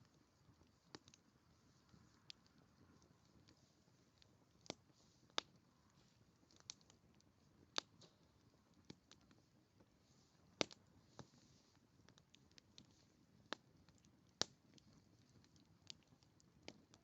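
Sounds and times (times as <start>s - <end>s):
faint hiss: 0.0s - 17.0s
wood fire crackling: 0.0s - 17.0s.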